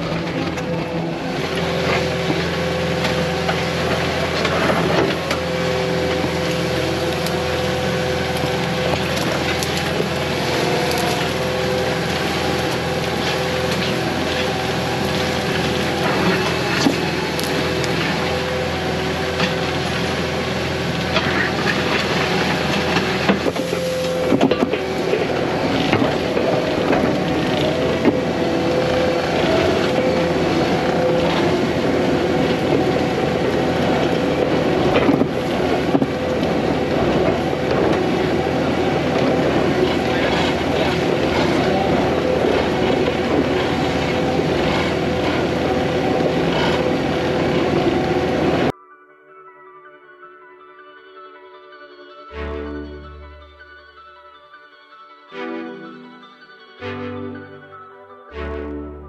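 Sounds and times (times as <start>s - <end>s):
diesel engine running: 0.0s - 48.7s.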